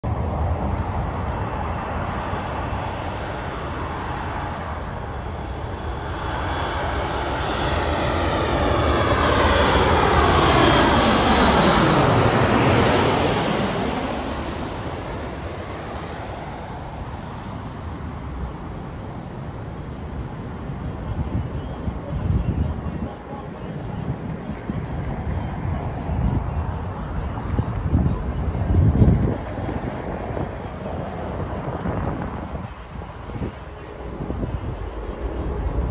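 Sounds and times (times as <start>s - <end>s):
jet plane passing overhead: 0.0s - 35.9s.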